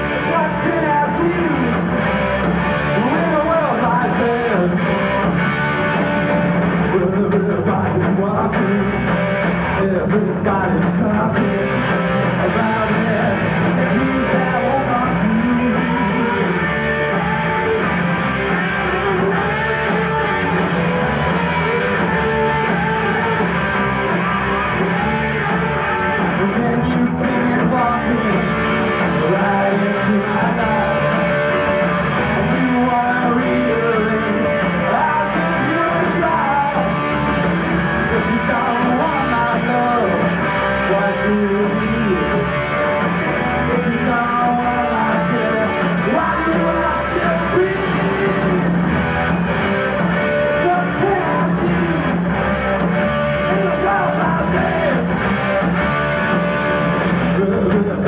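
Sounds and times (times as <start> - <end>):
electric guitar: 0.0 - 58.0
live rock band playing: 0.0 - 58.0.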